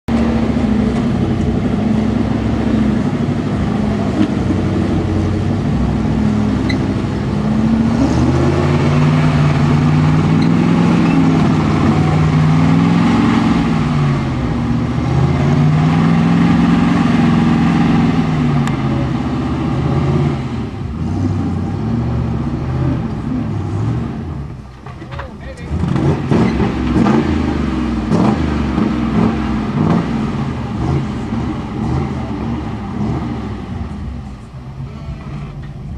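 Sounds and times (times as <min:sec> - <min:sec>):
buggy engine revving under load: 0:00.1 - 0:35.9.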